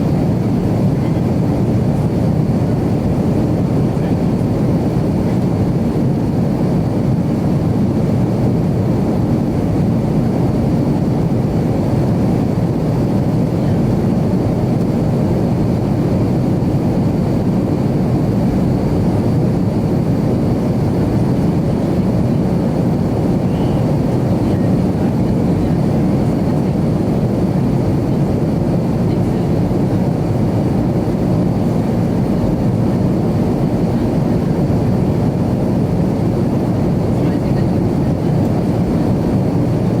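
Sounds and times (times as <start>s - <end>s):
jet cabin engine rumble: 0.0s - 40.0s.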